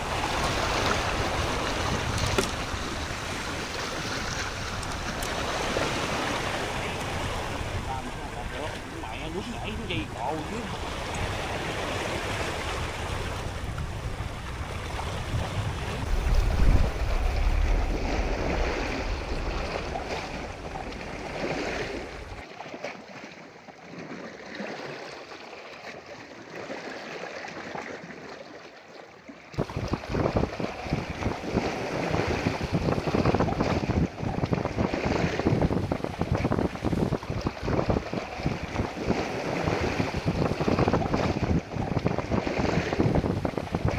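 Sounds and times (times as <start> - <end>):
wind buffeting microphone: 0.0 - 22.4, 29.6 - 43.9
sea waves: 0.0 - 43.9.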